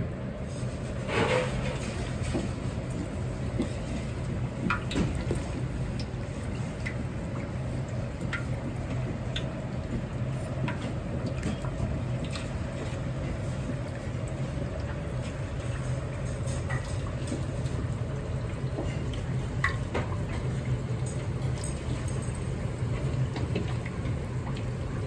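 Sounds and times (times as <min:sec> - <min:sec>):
chicken deep-frying in oil: 0:00.0 - 0:25.0
kitchen equipment hum: 0:00.0 - 0:25.0.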